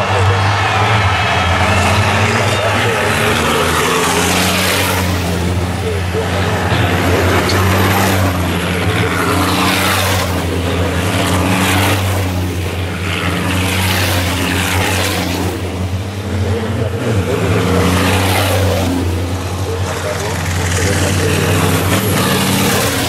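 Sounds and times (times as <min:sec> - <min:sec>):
diesel truck engines passing: 0:00.0 - 0:23.0.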